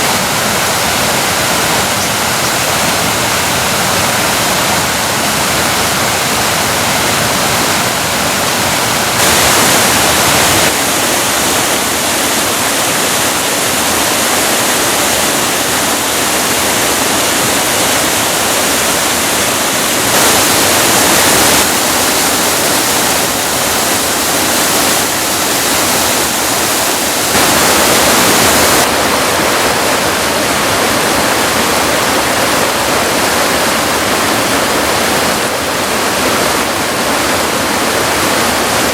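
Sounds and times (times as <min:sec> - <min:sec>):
mountain river rushing: 0:00.0 - 0:38.9.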